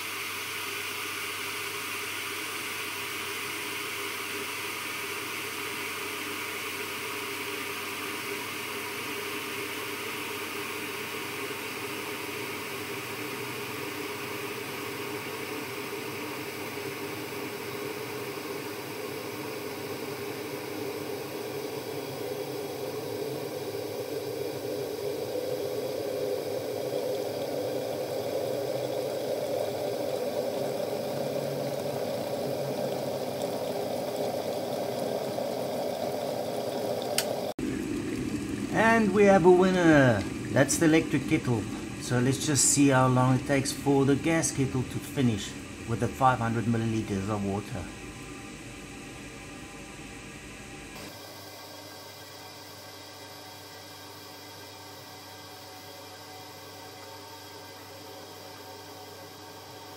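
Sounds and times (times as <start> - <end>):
kettle water hissing and bubbling: 0.0 - 59.9.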